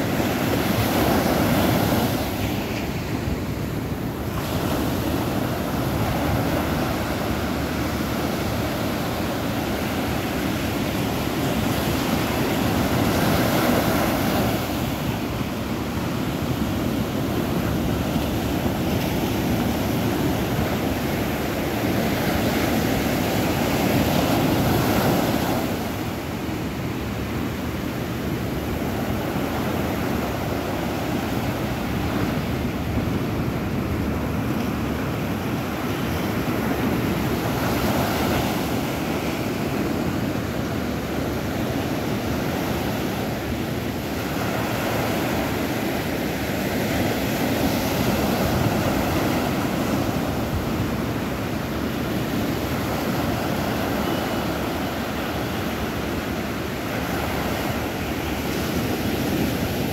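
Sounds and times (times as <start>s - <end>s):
waves breaking on a beach: 0.0s - 59.9s.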